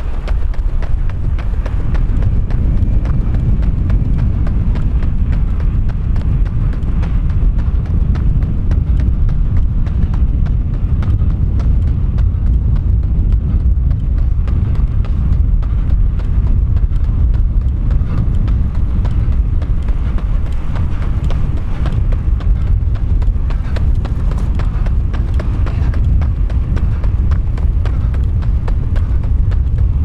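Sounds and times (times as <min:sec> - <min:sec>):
running footfalls on track: 0:00.0 - 0:30.0
wind rumble on microphone: 0:00.0 - 0:30.0.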